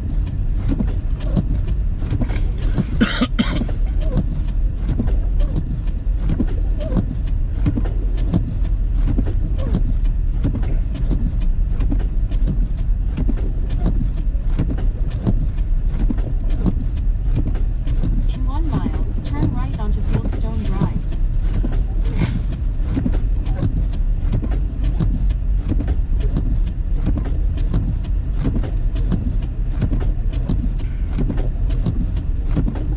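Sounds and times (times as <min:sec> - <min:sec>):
road and engine rumble: 0:00.0 - 0:32.9.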